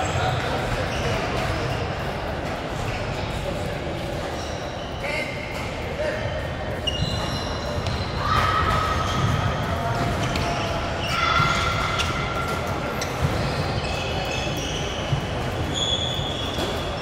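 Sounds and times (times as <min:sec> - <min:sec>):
shoes squeaking on floor: 0:00.0 - 0:02.0, 0:04.3 - 0:17.0
murmur of voices: 0:00.0 - 0:17.0.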